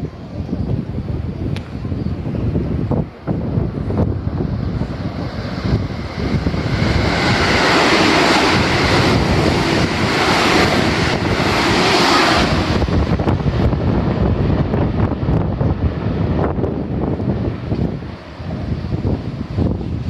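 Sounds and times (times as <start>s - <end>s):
electric train passing: 0.0s - 20.0s
wind buffeting microphone: 0.0s - 20.0s.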